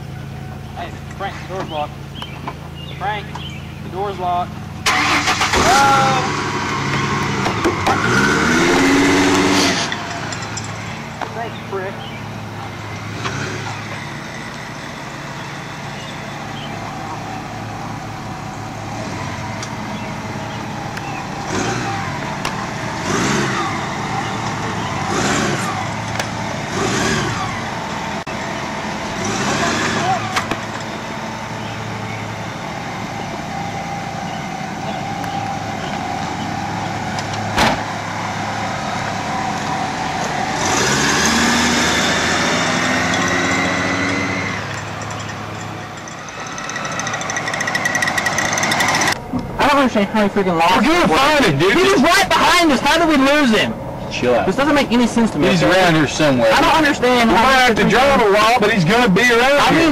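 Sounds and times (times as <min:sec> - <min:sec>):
car engine revving: 0:00.0 - 0:59.9
car engine running: 0:00.0 - 0:59.9.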